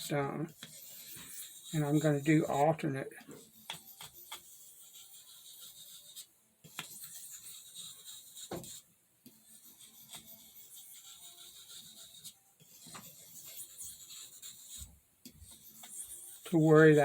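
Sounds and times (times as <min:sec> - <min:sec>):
knife scraping on whetstone: 0:00.0 - 0:02.6, 0:03.3 - 0:08.8, 0:09.4 - 0:17.0.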